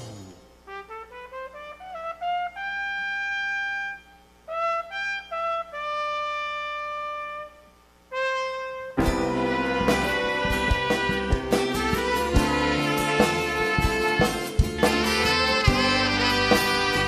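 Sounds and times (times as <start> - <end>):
solo trumpet playing: 0.6 - 17.0.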